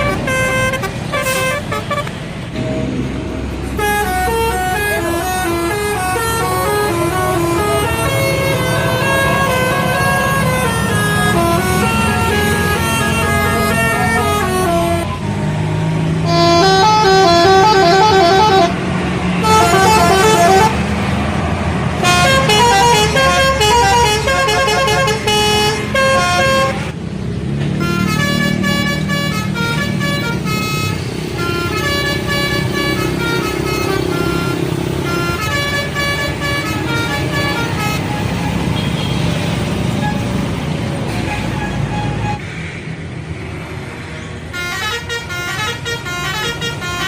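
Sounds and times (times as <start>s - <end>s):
multi-tone bus horns playing runs: 0.0s - 15.4s, 16.2s - 21.1s, 22.0s - 27.0s, 27.8s - 42.4s, 44.5s - 47.0s
bus engine running: 0.0s - 47.0s.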